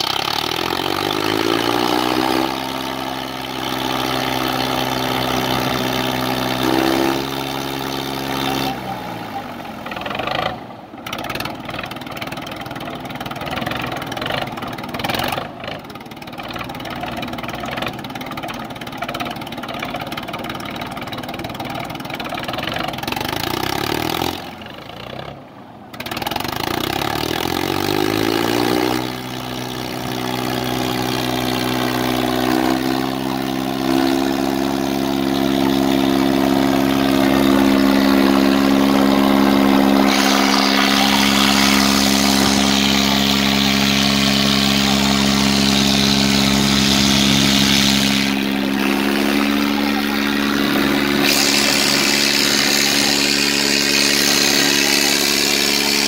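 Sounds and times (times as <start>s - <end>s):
tractor diesel engine revving: 0.0s - 25.4s, 26.0s - 56.0s.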